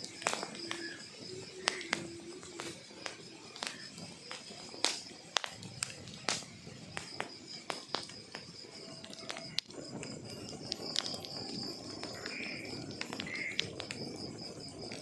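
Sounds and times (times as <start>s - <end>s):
logs crackling in fireplace: 0.0s - 15.0s
soft hiss of flame: 0.0s - 15.0s.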